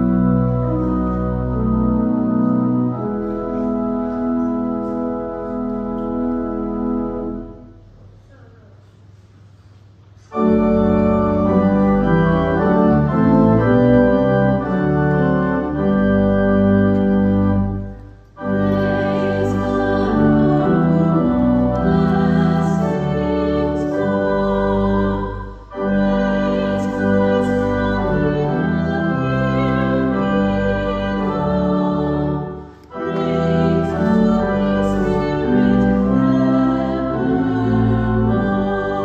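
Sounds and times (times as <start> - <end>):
church organ chords: 0.0 - 8.2, 10.2 - 39.0.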